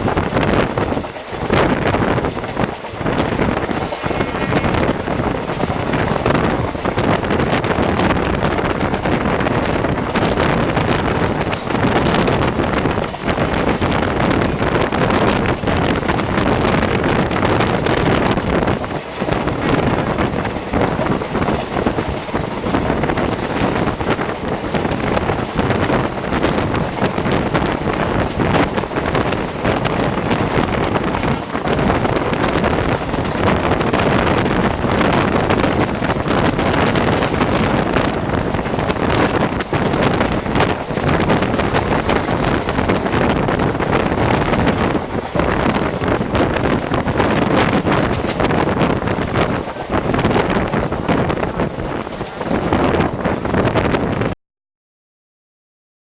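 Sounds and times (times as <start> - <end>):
train coach rumbling on rails: 0.0 - 54.4
wind buffeting microphone: 0.0 - 54.4.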